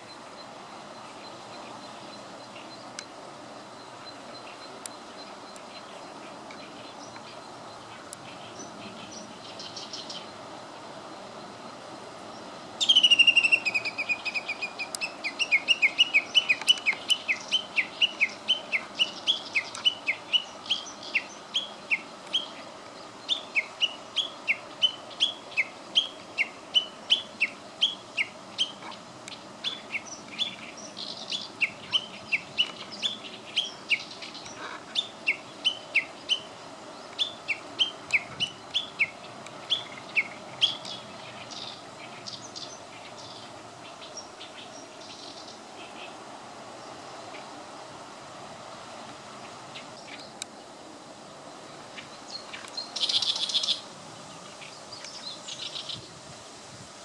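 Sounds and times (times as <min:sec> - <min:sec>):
bush warbler whistle and sharp notes: 0:00.0 - 0:48.3, 0:49.2 - 0:56.8.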